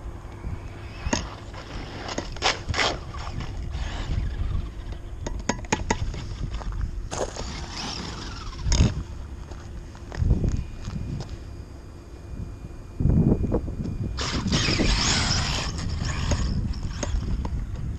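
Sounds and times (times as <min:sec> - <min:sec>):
low wind rumble: 0:00.0 - 0:17.9
gravel crunching: 0:00.7 - 0:11.6, 0:14.2 - 0:17.9.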